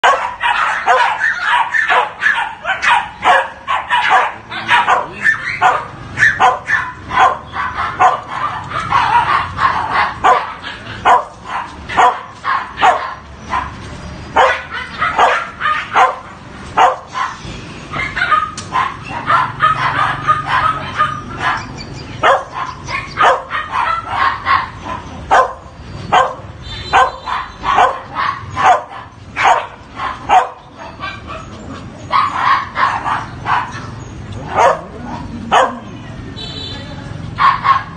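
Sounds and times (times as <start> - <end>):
small dogs yapping: 0.0 - 35.9, 37.4 - 37.9.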